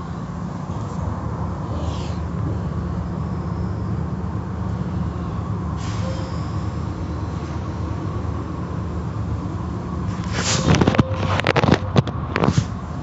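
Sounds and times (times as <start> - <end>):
car wash machinery rumble: 0.0 - 13.0.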